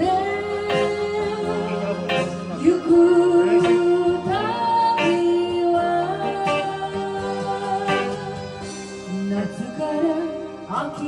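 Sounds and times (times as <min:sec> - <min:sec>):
electric guitar accompaniment: 0:00.0 - 0:11.0
woman singing into microphone: 0:00.0 - 0:11.0.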